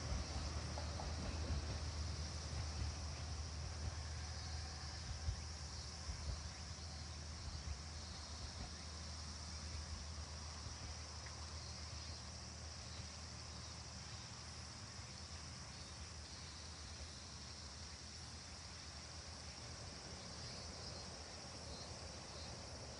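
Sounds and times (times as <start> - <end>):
insects buzzing: 0.0 - 22.9.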